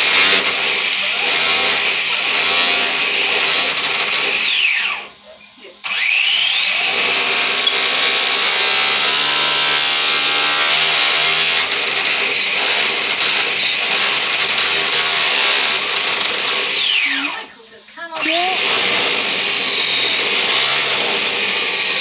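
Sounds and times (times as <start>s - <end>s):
rc car motor whining: 0.0s - 22.0s.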